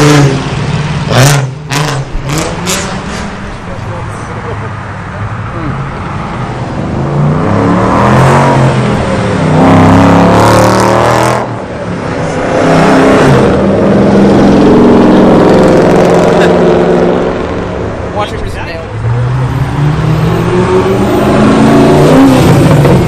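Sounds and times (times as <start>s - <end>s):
car engine revving hard: 0.0s - 3.7s, 5.8s - 17.8s, 19.0s - 23.0s.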